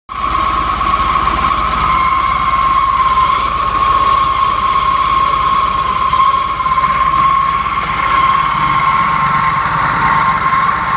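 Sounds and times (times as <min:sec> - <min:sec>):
engine running: 0:00.1 - 0:10.9
high-pitched clutch whine: 0:00.1 - 0:10.9.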